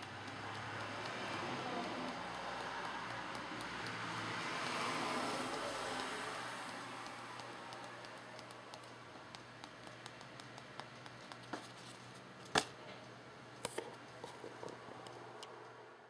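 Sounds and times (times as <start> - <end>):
faint ticks and taps: 0.0 - 11.9, 13.0 - 15.8.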